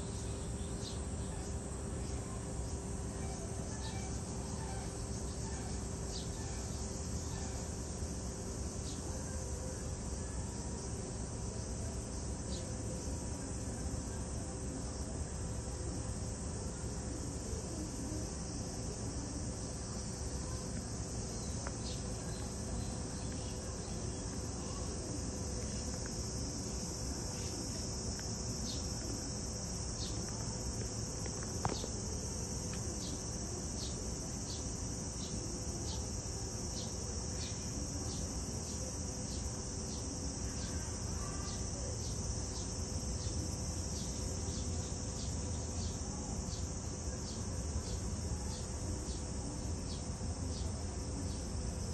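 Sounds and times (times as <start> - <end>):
regular ticking insect call: 0.0 - 51.9
cicada chorus shrilling: 0.1 - 51.9.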